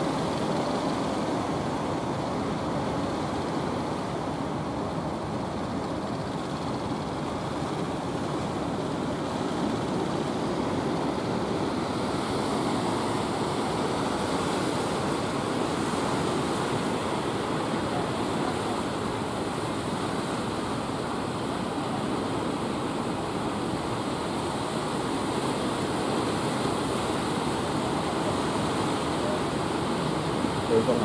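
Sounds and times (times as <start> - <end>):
ocean surf breaking on shore: 0.0 - 31.0.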